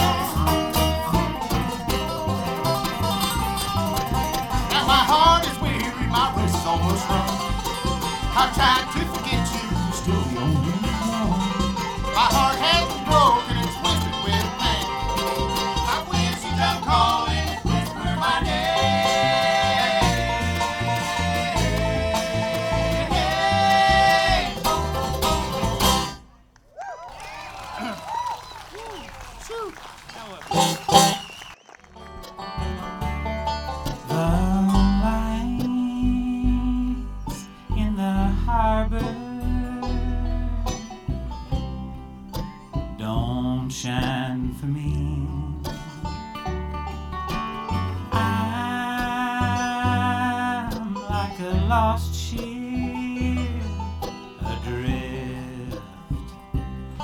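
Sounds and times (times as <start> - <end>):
banjo: 0.0 - 26.4, 30.4 - 57.0
bass line: 0.0 - 26.4, 30.5 - 31.3, 31.9 - 57.0
bluegrass band playing: 0.0 - 26.5, 29.1 - 57.0
plucked acoustic guitar: 0.0 - 26.5, 30.5 - 57.0.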